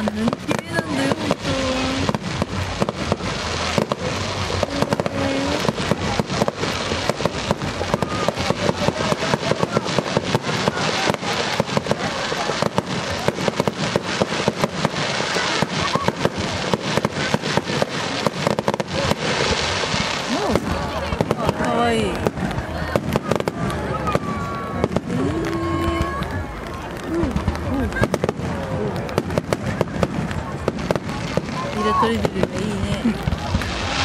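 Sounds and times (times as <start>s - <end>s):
fireworks bursts and crackles: 0.0s - 34.0s.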